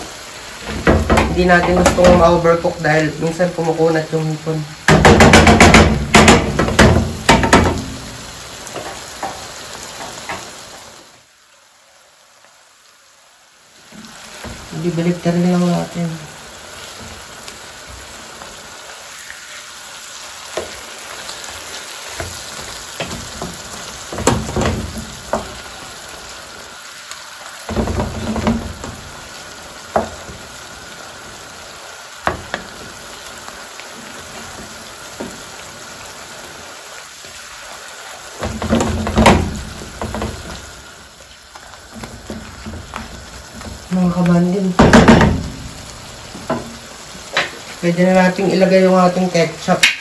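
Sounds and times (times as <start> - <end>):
shrimp sizzling in pan: 0.0 - 50.0.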